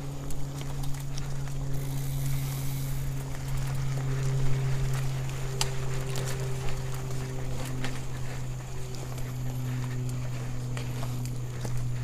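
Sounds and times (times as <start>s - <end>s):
bike rattling: 0.0s - 12.0s
bike tyres on dirt trail: 0.0s - 12.0s
steady low hum: 0.0s - 12.0s.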